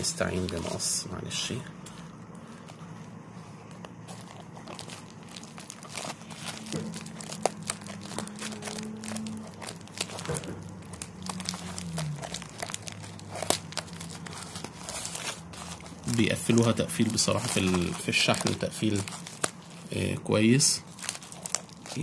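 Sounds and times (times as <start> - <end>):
plastic crinkling: 0.0 - 1.0, 2.2 - 22.0.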